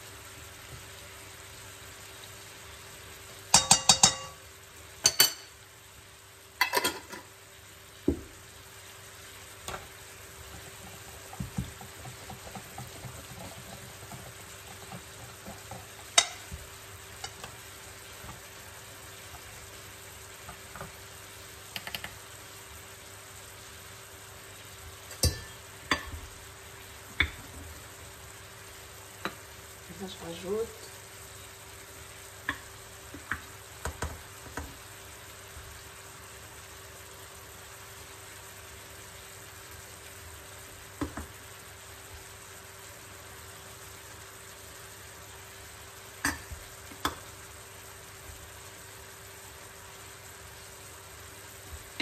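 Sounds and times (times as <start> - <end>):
low hiss: 0.0 - 11.8, 13.3 - 52.0.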